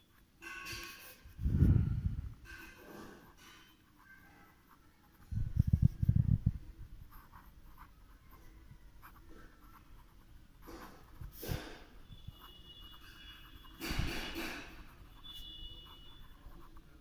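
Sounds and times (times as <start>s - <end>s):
pen scratching on paper: 2.4s - 6.4s, 7.0s - 17.0s.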